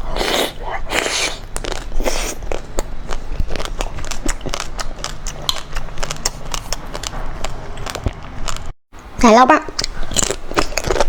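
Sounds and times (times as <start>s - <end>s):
chewing ice cream bars: 0.1s - 8.8s, 9.7s - 11.0s.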